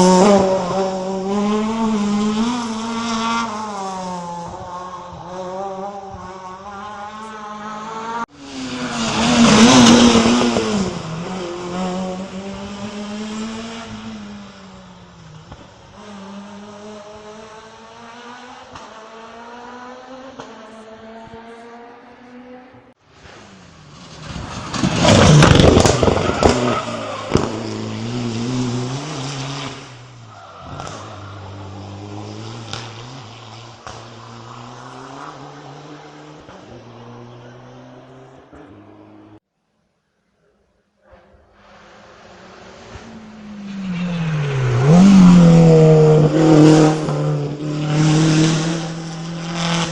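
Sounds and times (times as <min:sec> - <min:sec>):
rally cars passing at speed: 0:00.0 - 0:39.4, 0:41.0 - 0:49.9.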